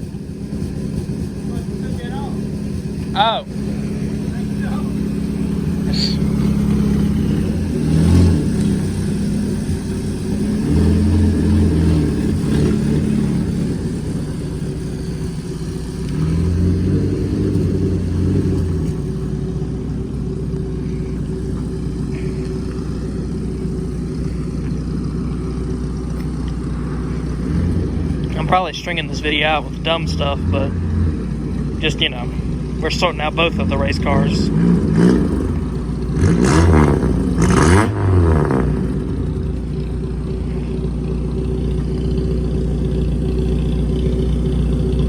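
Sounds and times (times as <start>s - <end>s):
race car engine idling and revving: 0.0s - 45.0s.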